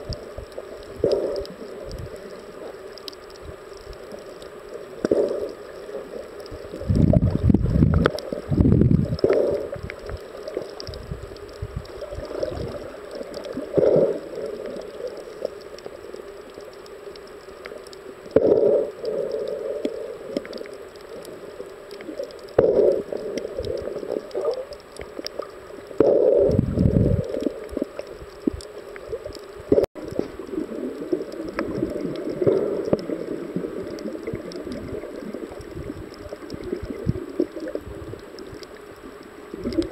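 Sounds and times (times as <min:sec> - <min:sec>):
underwater water sloshing: 0:00.0 - 0:39.9.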